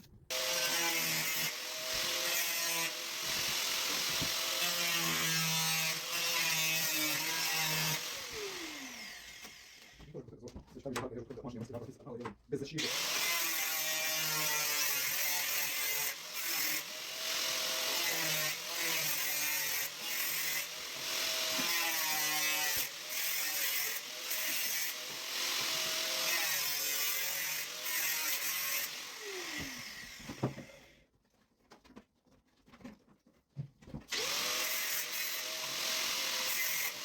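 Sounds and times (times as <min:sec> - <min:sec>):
power tool running: 0:00.3 - 0:10.0, 0:12.8 - 0:30.9, 0:34.1 - 0:37.0.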